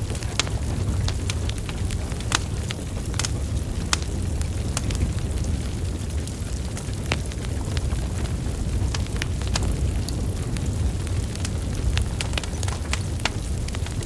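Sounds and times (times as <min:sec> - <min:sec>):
flames rumbling: 0:00.0 - 0:14.0
logs crackling and popping: 0:00.0 - 0:14.0.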